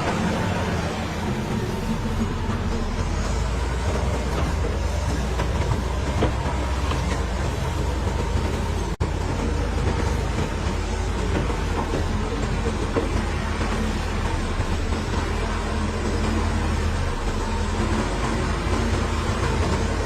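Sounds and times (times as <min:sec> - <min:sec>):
diesel engine under load: 0:00.0 - 0:20.0
steel tracks clanking: 0:00.0 - 0:20.0.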